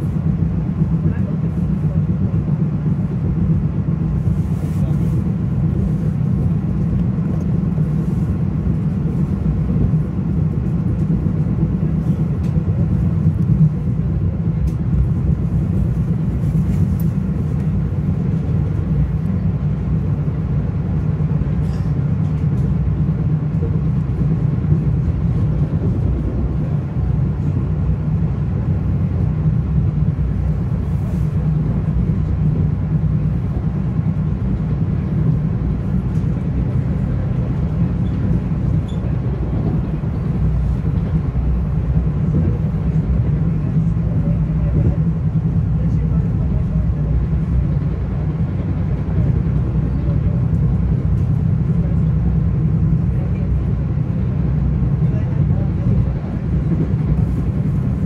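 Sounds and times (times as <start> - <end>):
train rumbling inside passenger car: 0.0 - 58.0.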